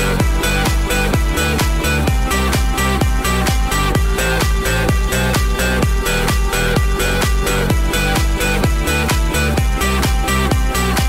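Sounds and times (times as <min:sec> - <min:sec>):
kick drum beat: 0:00.0 - 0:11.0
sustained synth chords: 0:00.0 - 0:11.0.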